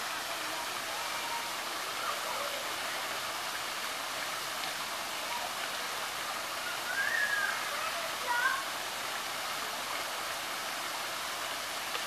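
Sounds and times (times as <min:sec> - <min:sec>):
water spraying into shallow pool: 0:00.0 - 0:12.0.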